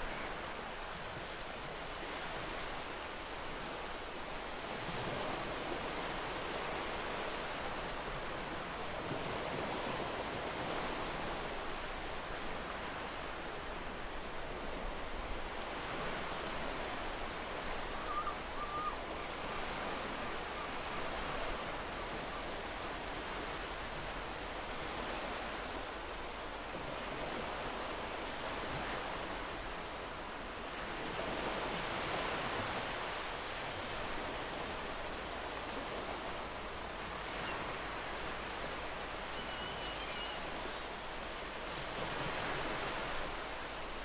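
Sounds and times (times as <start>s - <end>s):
waves washing on beach: 0.0s - 44.0s.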